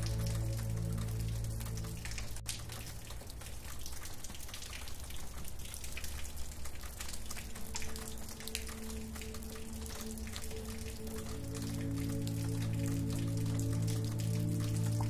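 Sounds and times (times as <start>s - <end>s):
rain falling steadily: 0.0s - 15.0s
soft held music tones: 0.0s - 15.0s.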